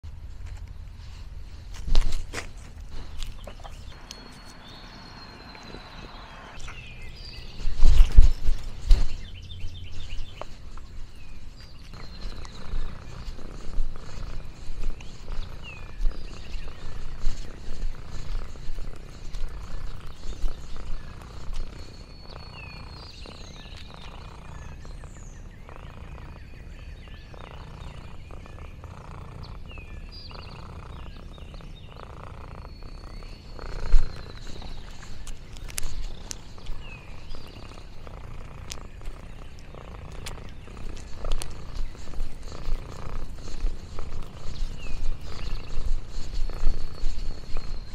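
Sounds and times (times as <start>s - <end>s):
cat purring: 0.0s - 47.9s.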